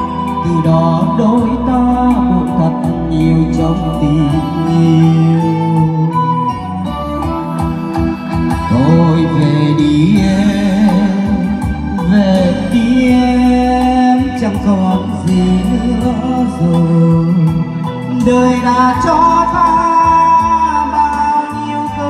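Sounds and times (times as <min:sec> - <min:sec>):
slow ballad through pa speakers: 0:00.0 - 0:22.0.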